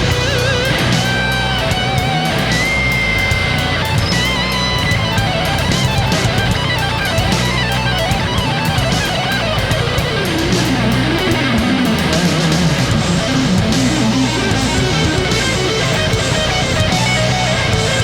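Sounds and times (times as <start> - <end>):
bass: 0.0 - 18.0
electric guitar lead melody: 0.0 - 18.0
steady drum beat: 0.0 - 18.0.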